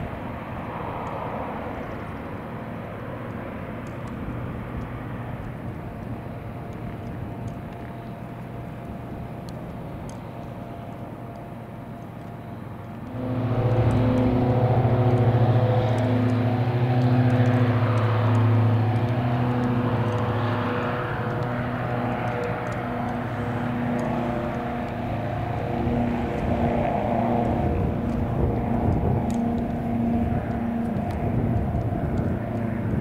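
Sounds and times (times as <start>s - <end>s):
propeller aircraft engine droning: 0.0s - 33.0s.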